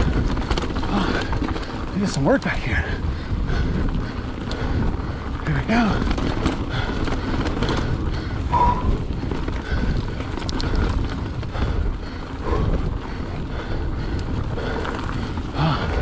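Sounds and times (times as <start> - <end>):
bike rattles and knocks: 0.0 - 16.0
bike tyre noise: 0.0 - 16.0
wind rumble on microphone: 0.0 - 16.0.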